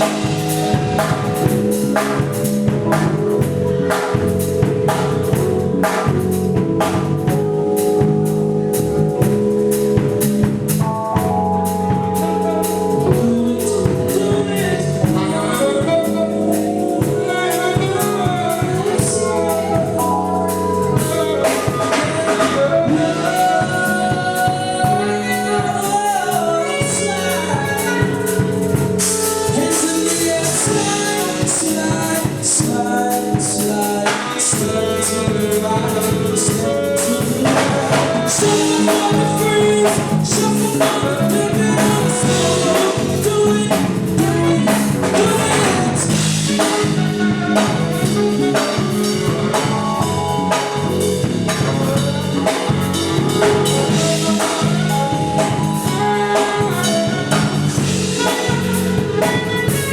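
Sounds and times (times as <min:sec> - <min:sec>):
bass: 0:00.0 - 0:59.9
drum kit: 0:00.0 - 0:59.9
keyboards: 0:00.0 - 0:59.9
person singing: 0:11.2 - 0:59.9.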